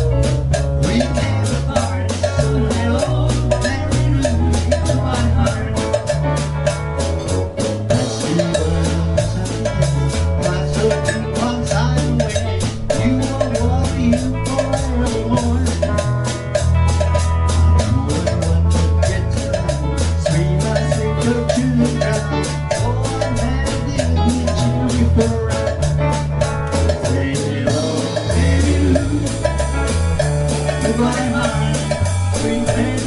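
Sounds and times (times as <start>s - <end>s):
bass line: 0.0s - 33.0s
drum kit beat: 0.0s - 33.0s
electric guitar: 0.0s - 33.0s.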